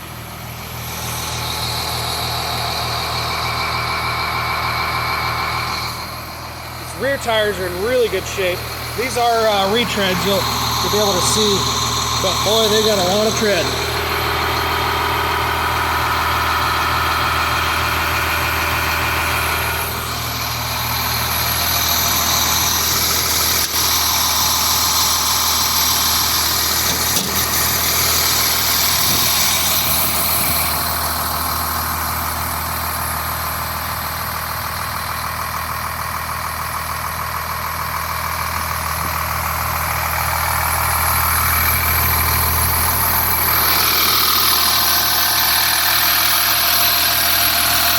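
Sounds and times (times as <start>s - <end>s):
bus engine idling: 0.0s - 47.9s.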